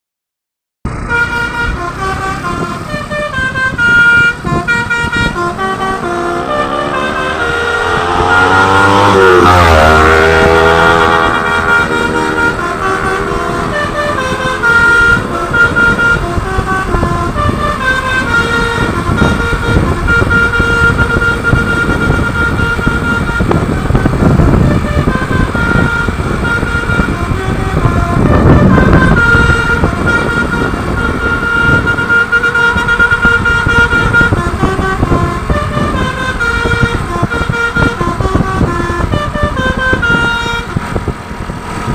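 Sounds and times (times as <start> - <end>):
truck engine running: 0.8 - 41.9
multi-tone air horn playing a tune: 1.0 - 41.4.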